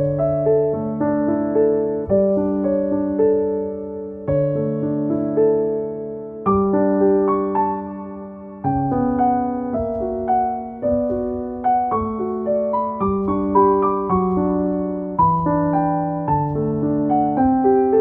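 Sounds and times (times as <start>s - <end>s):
soft solo piano: 0.0s - 18.0s.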